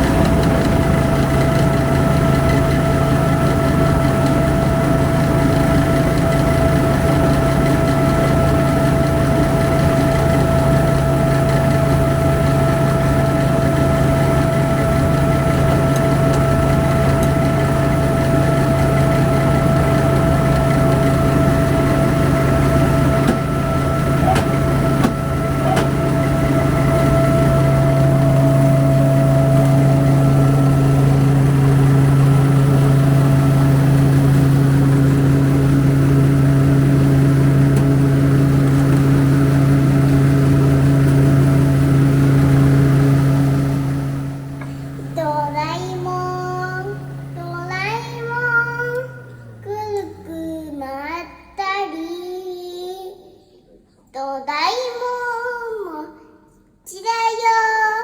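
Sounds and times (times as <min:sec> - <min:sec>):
rice huller humming: 0:00.0 - 0:50.8.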